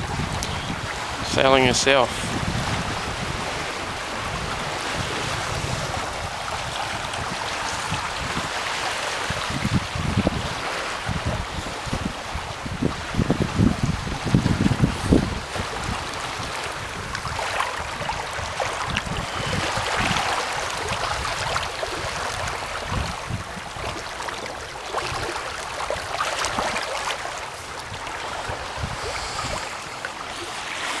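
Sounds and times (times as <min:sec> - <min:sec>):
wind buffeting microphone: 0:00.0 - 0:26.9, 0:27.5 - 0:31.0
water rushing along a hull: 0:00.0 - 0:31.0.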